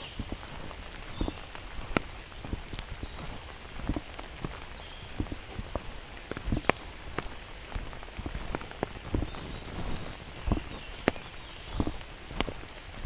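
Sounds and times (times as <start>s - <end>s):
large raindrops tapping: 0.0s - 13.0s
rain hissing: 0.0s - 13.0s.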